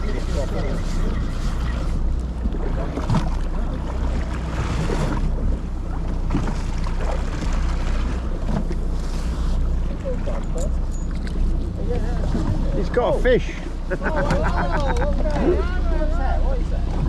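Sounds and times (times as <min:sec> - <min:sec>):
boat engine running at low revs: 0:00.0 - 0:17.0
sea water rushing around hull: 0:00.0 - 0:17.0.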